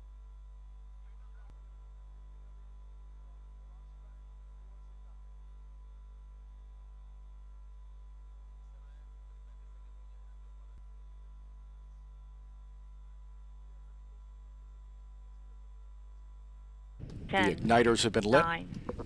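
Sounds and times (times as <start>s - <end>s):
low electrical mains hum: 0.0s - 19.0s.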